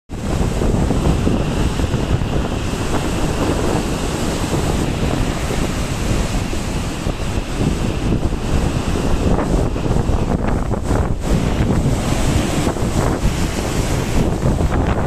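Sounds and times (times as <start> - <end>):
heavy surf on rocky shore: 0.1 - 15.0
wind buffeting microphone: 0.1 - 15.0.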